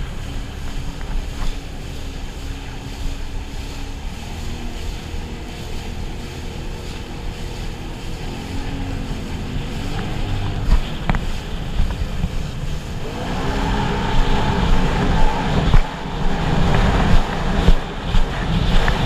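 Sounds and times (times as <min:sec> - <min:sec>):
water rushing: 0:00.0 - 0:19.0
watercraft engine running: 0:00.0 - 0:19.0
wind on microphone: 0:00.0 - 0:19.0.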